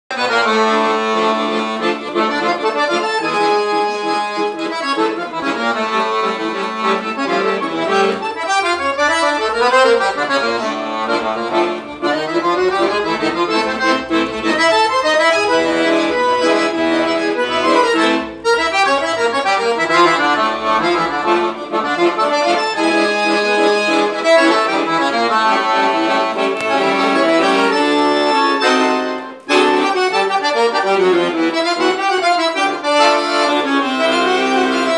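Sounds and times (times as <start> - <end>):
solo accordion melody: 0.1 - 34.9.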